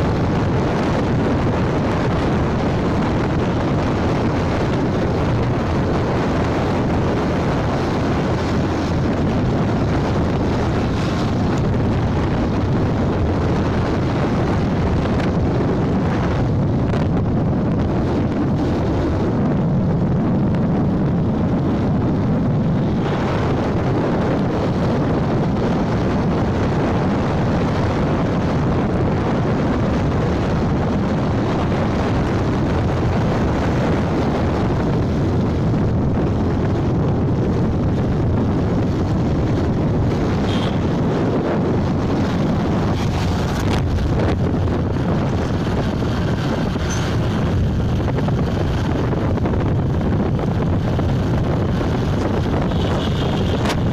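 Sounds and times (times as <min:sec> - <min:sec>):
motorcycle engine and road noise: 0:00.0 - 0:53.9
wind on microphone: 0:00.0 - 0:53.9.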